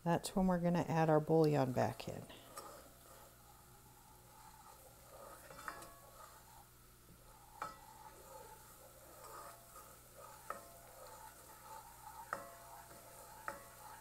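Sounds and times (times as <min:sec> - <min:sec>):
faint sizzle: 0:00.0 - 0:14.0
wooden spoon stirring in a pan: 0:00.6 - 0:14.0.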